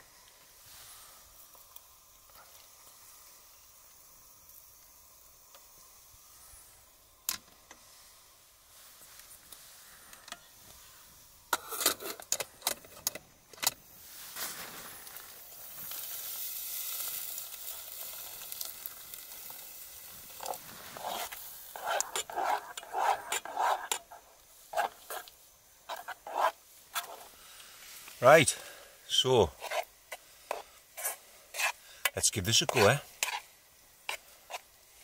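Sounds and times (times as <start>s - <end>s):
pan sizzling on stove: 0.0s - 12.5s, 13.8s - 35.0s.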